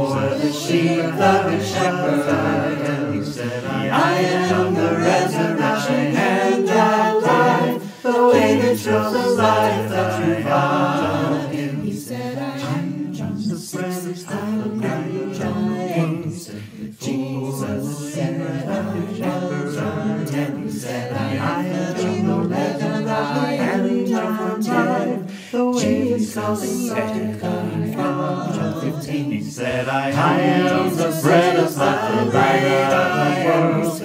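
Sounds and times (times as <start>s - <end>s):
a cappella group singing a hymn: 0.0s - 34.0s.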